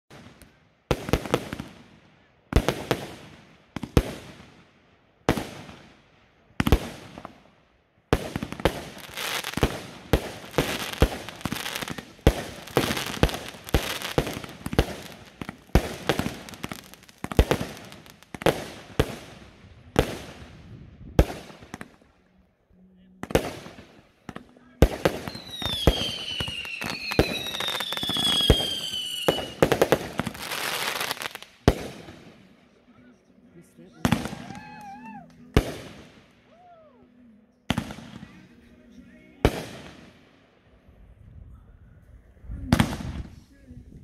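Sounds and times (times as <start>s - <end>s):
fireworks bangs and crackling: 0.1s - 22.1s, 23.2s - 33.0s, 33.8s - 36.7s, 37.7s - 38.6s, 39.4s - 40.3s, 42.7s - 43.5s.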